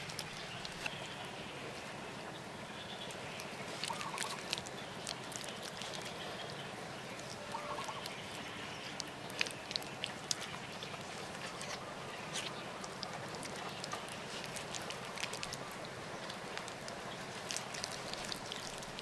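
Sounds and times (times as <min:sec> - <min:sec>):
bird calling: 0:00.0 - 0:19.0
steady background hiss: 0:00.0 - 0:19.0
wet clay pressed by hand: 0:03.4 - 0:19.0.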